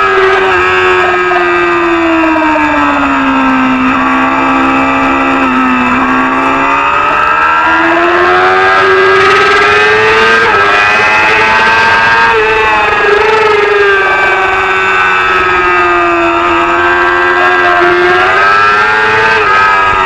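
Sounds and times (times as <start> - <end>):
racing motorcycle engine revving: 0.0 - 20.0.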